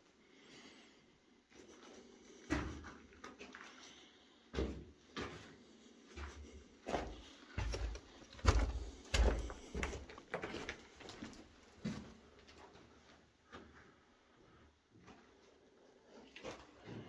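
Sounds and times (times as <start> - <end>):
footsteps on debris-strewn floor: 1.5 - 17.0.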